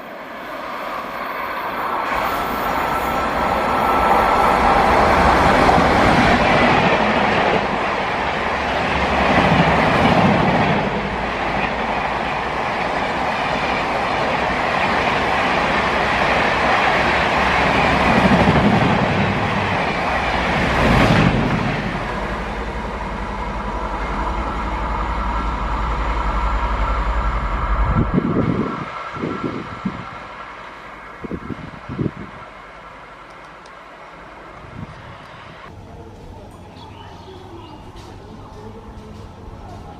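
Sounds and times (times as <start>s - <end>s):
train wheels rushing on rails: 0.0s - 37.0s.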